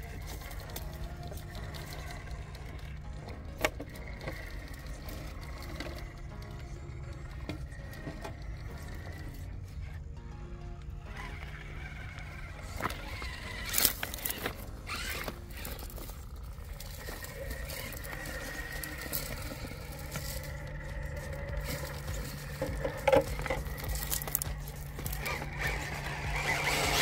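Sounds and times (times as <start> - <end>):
tyres scraping and clicking on rock: 0.0 - 10.0, 11.1 - 27.0
electric motor whine: 0.0 - 27.0.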